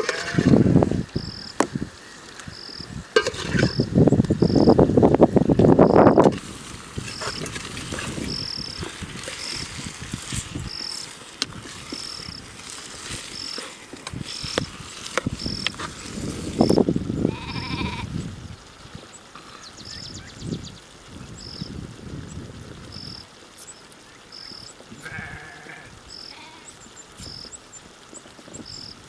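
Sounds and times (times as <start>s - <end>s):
insect chirping: 0.0s - 18.2s, 19.8s - 21.8s, 22.9s - 24.8s, 26.0s - 27.8s, 28.5s - 29.0s.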